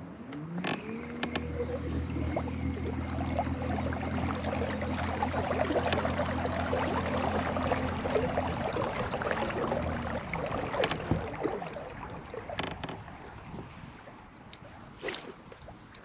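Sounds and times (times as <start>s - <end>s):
low steady hum: 0.0s - 16.0s
water splashing around kayak: 0.1s - 16.0s.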